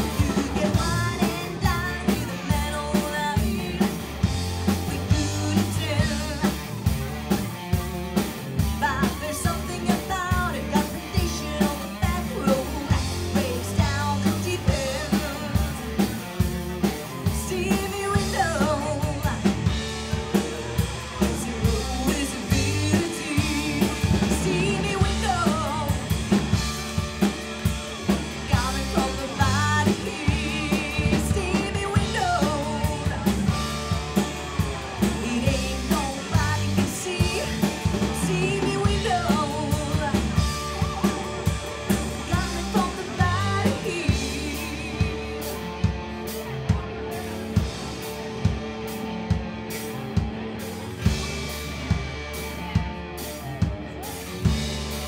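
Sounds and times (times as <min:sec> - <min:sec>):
person singing: 0:00.0 - 0:07.0, 0:08.7 - 0:16.2, 0:16.8 - 0:48.2
drum kit beat: 0:00.0 - 0:55.0
live rock band playing: 0:00.0 - 0:55.0.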